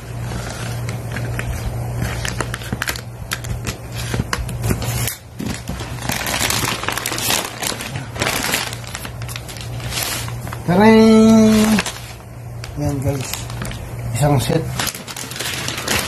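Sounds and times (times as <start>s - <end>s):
plastic wrap crinkling: 0.3s - 16.0s.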